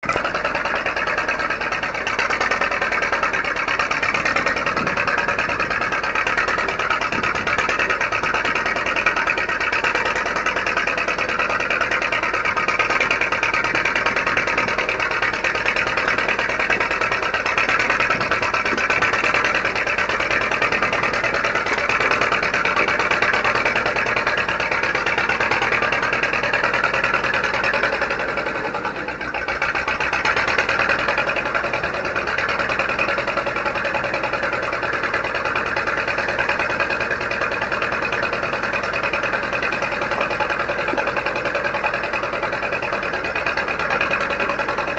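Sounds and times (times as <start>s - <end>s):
backhoe engine clattering: 0.0s - 44.9s.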